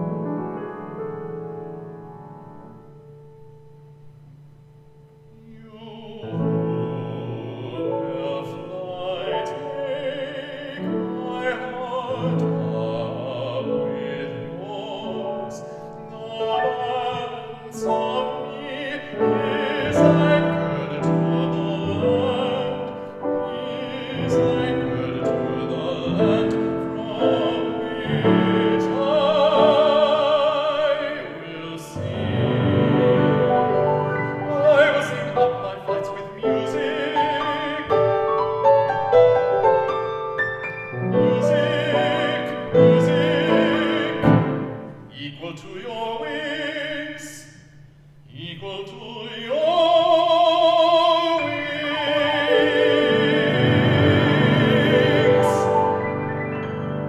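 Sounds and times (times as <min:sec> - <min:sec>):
piano accompaniment: 0:00.0 - 0:45.4, 0:49.5 - 0:57.0
baritone voice singing: 0:05.3 - 0:40.1, 0:41.0 - 0:47.7, 0:48.3 - 0:56.4.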